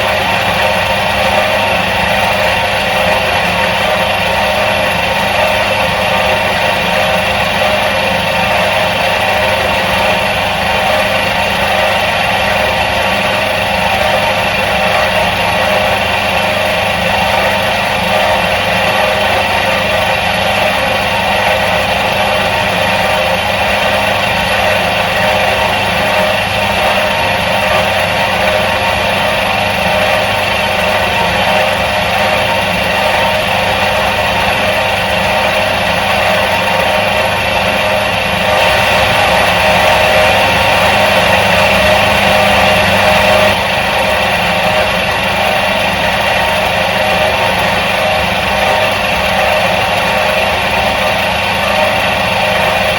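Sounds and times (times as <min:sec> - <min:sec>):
washing machine motor humming: 0:00.0 - 0:52.9.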